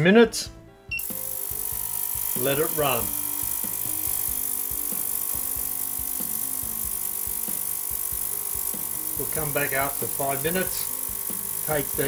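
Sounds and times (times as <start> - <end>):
ultrasonic cleaner hissing: 1.0 - 12.0.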